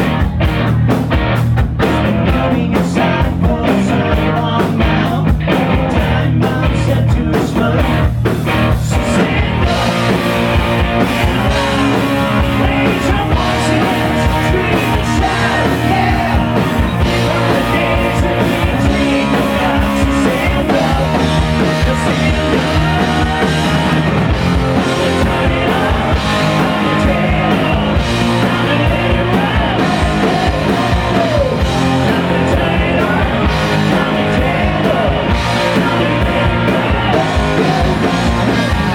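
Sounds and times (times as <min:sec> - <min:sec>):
loud rock music with electric guitar: 0:00.0 - 0:38.9.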